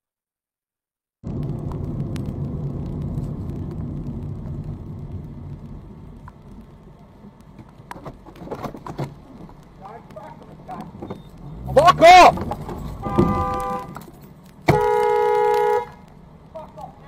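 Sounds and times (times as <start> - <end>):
car road and engine rumble: 1.2 - 17.0.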